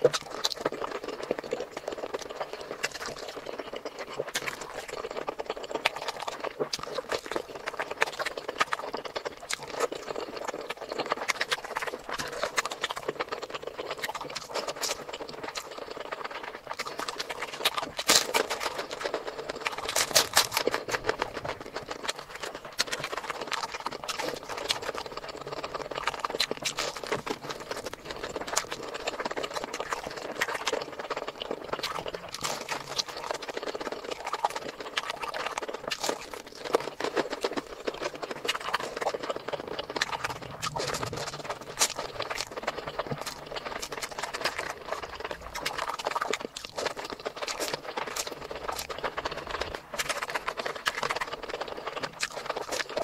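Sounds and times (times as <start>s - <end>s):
wet chewing and smacking: 0.0s - 53.0s.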